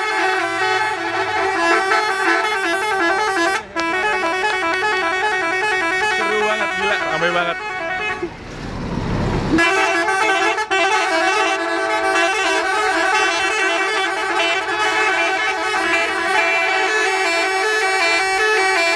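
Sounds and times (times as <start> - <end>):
multi-trumpet air horn chord: 0.0 - 8.3, 9.6 - 18.9.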